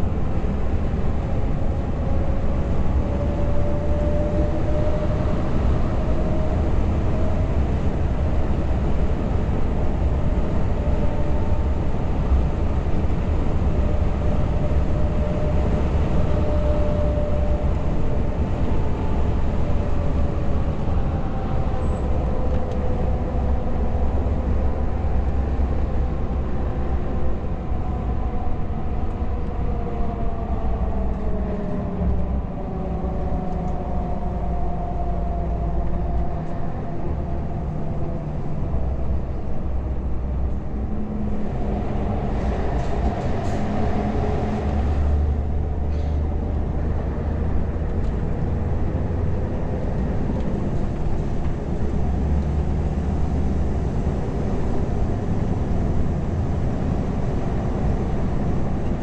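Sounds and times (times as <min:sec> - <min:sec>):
rushing in tunnel: 0:00.0 - 0:59.0
truck diesel engine drone: 0:00.0 - 0:59.0.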